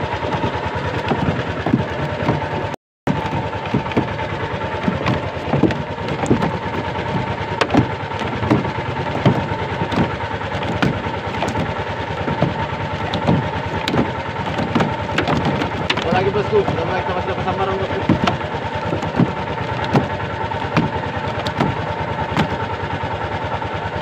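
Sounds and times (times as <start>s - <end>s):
boat motor running: 0.0s - 24.0s.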